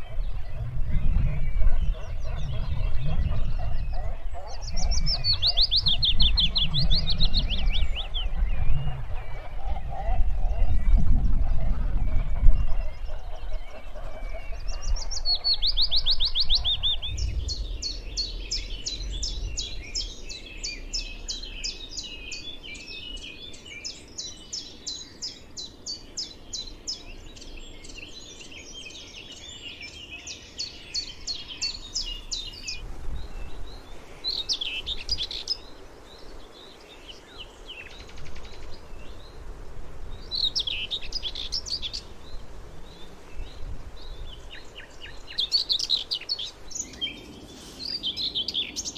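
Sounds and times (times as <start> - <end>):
small songbirds singing: 0.0 - 48.9.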